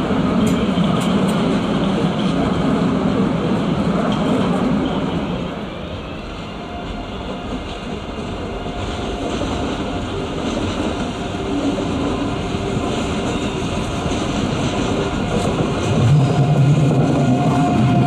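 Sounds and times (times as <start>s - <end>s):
electric train running noise: 0.0s - 18.0s.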